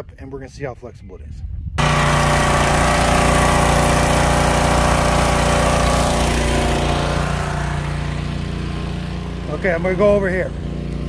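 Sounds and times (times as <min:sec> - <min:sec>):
pressure washer engine running: 0:01.8 - 0:11.0.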